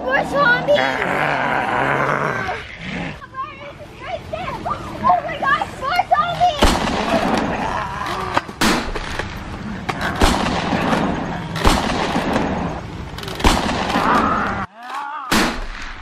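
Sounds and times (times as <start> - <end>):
noisy background: 0.0 - 14.7.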